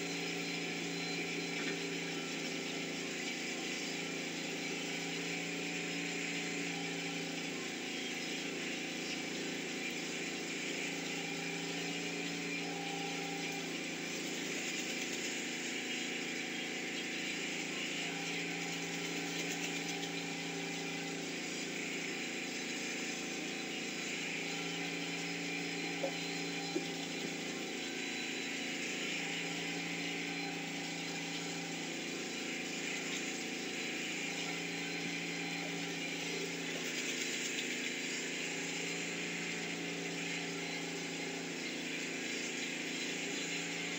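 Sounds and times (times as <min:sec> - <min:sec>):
mechanical hum: 0:00.0 - 0:43.9.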